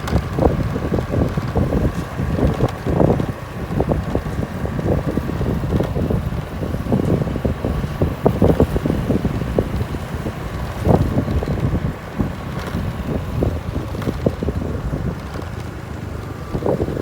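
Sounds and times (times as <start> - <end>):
low motorcycle rumble: 0.0 - 17.0
wind buffeting microphone: 0.0 - 17.0.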